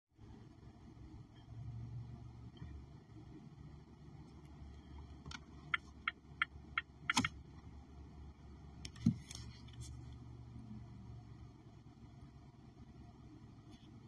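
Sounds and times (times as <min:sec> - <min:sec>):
distant road traffic rumble: 0:00.2 - 0:14.0.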